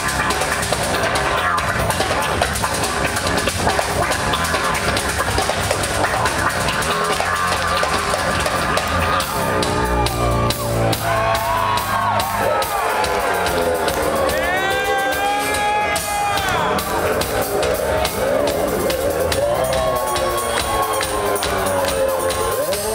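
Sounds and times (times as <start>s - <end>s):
drum kit: 0.0s - 22.9s
rock band playing live: 0.0s - 22.9s
sliding bending guitar notes: 0.0s - 22.9s.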